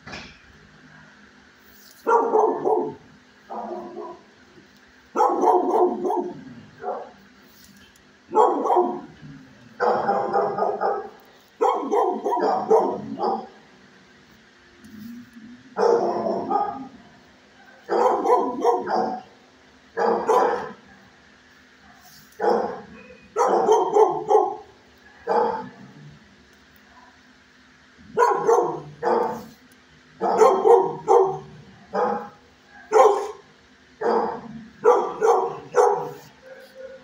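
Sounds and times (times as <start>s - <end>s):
dogs barking: 2.0s - 4.4s, 5.1s - 7.3s, 8.3s - 13.7s, 15.7s - 26.1s, 26.8s - 37.0s.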